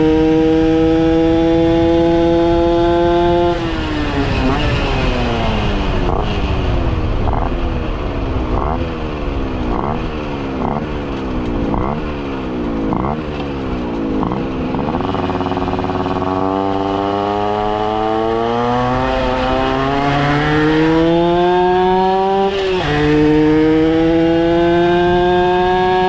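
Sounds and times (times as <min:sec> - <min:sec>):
moped engine accelerating: 0:00.0 - 0:26.0.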